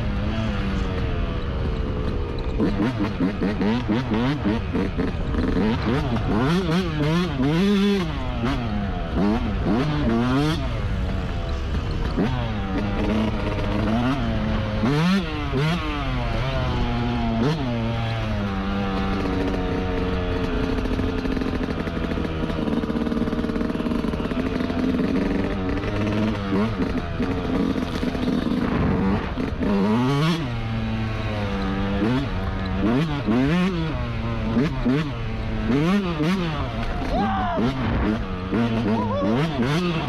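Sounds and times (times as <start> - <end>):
two-stroke motorcycle engine revving: 0.0 - 40.0.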